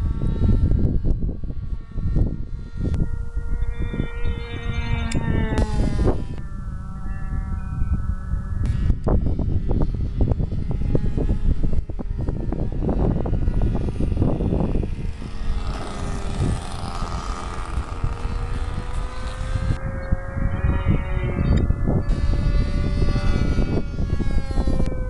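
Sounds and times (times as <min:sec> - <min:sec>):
model airplane engine whine: 0:00.0 - 0:25.0
wind buffeting microphone: 0:00.0 - 0:25.0.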